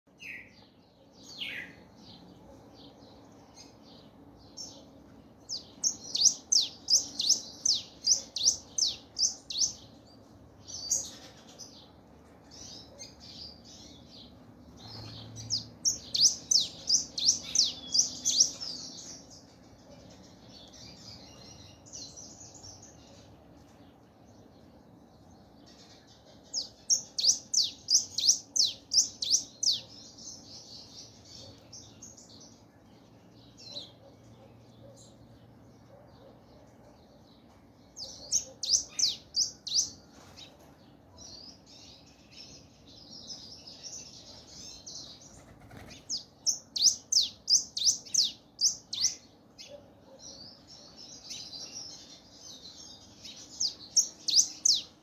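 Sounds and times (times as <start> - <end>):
soft bird twittering: 0.1 - 55.0.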